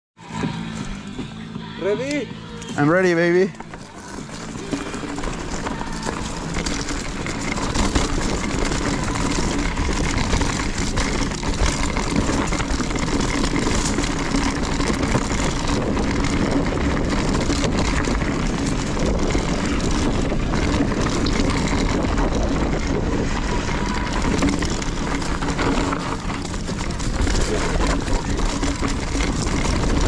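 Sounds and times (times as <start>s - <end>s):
bike tyres rolling on dirt: 0.2s - 30.0s
wind rushing over microphone: 0.3s - 30.0s
bike knocks and rattles: 0.7s - 30.0s.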